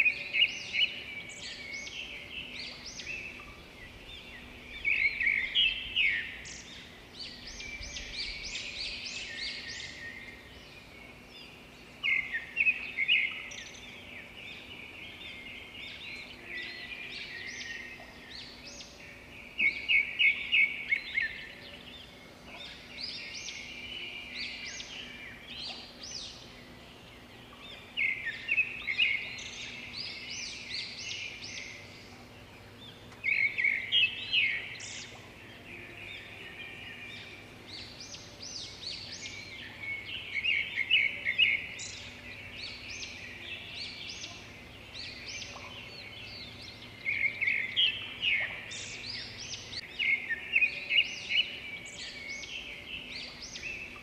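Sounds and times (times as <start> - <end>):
birds chirping in rapid trills: 0.0 - 54.0
faint steady hum: 0.0 - 54.0.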